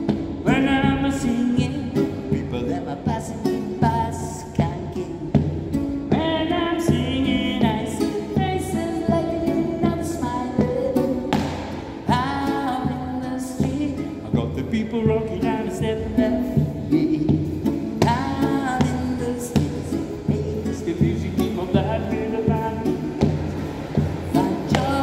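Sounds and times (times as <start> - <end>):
man singing: 0.0 - 25.0
strummed classical guitar: 0.0 - 25.0.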